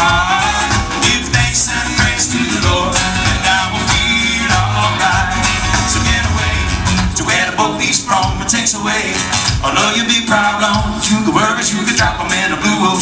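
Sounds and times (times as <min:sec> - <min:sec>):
live country-rock band playing: 0:00.0 - 0:13.0.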